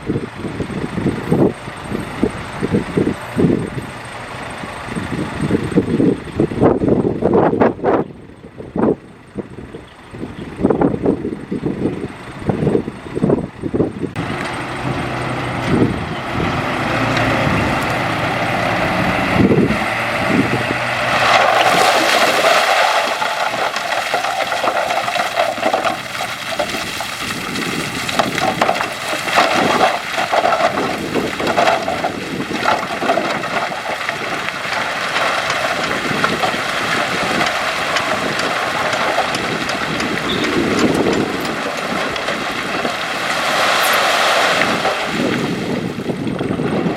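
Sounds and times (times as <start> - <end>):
heavy machinery running: 9.1 - 46.9.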